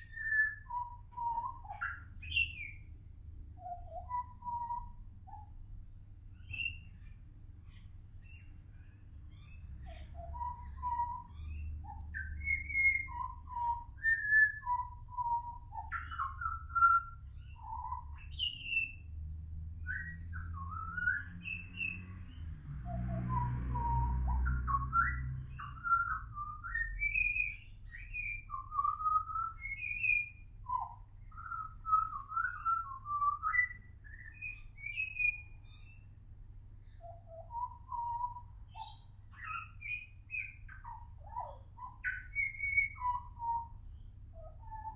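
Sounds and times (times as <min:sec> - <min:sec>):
bird singing fluty whistles: 0:00.0 - 0:02.9, 0:03.6 - 0:05.5, 0:06.4 - 0:07.2, 0:09.3 - 0:19.1, 0:19.8 - 0:36.1, 0:36.8 - 0:44.9.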